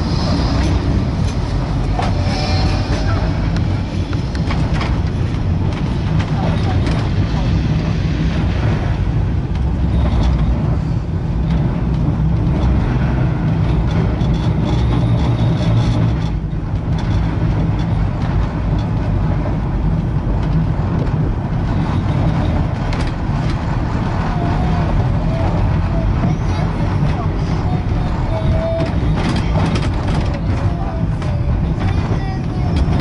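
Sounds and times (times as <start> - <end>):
tram rumbling on rails: 0.0 - 33.0.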